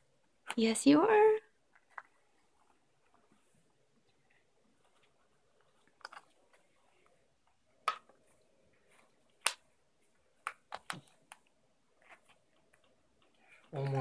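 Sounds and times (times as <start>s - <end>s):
soft handling noises: 1.5s - 14.0s.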